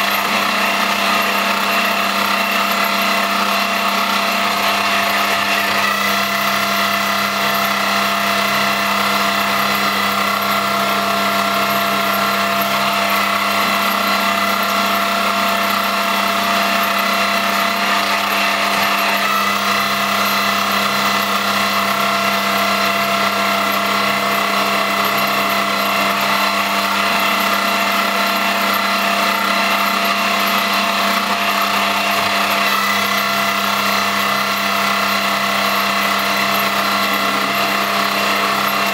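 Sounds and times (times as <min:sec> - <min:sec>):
milling machine motor whine: 0:00.0 - 0:38.9.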